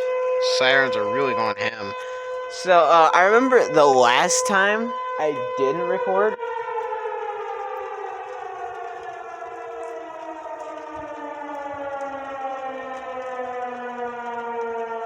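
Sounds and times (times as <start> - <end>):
warning sirens wailing: 0.0 - 15.0.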